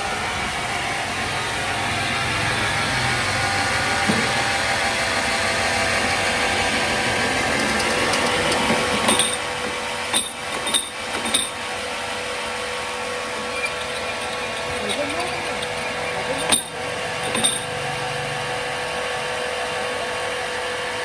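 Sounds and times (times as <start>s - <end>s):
band sawmill running: 0.0s - 21.0s.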